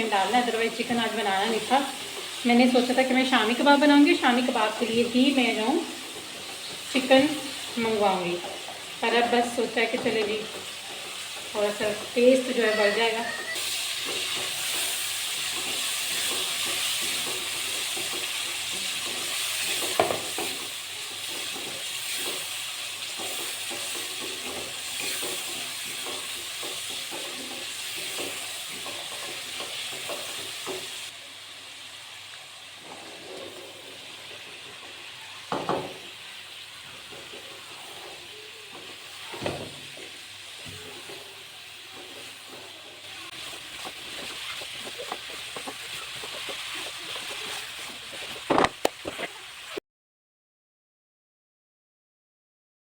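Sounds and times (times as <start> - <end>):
spoon scraping and knocking pan: 0.0 - 31.1, 32.8 - 49.8
chicken sizzling in a pot: 0.0 - 49.8.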